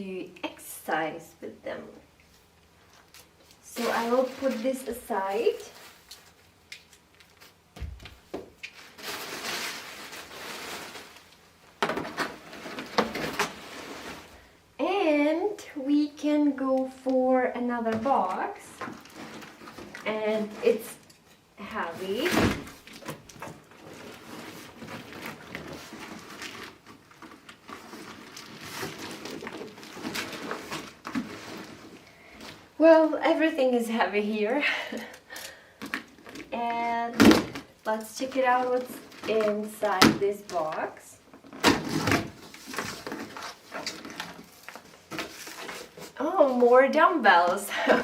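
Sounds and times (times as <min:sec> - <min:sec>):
boxes rustling and scraping: 0:02.4 - 0:06.6, 0:07.3 - 0:14.6, 0:17.8 - 0:33.0, 0:35.8 - 0:48.0.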